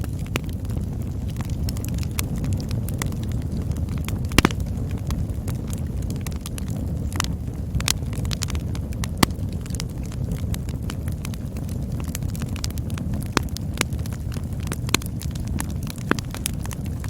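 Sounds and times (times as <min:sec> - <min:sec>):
burning wood crackling and popping: 0:00.0 - 0:17.0
campfire low rumble: 0:00.0 - 0:17.0.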